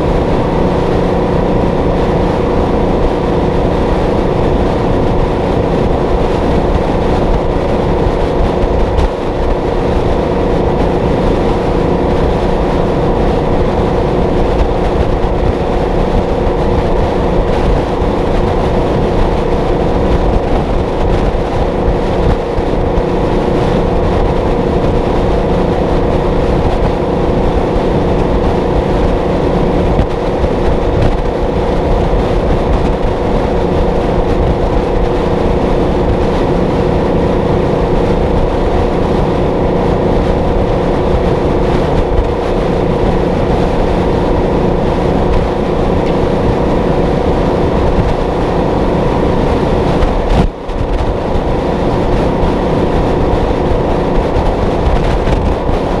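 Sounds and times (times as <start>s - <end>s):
truck diesel engine cruising: 0.0s - 56.0s.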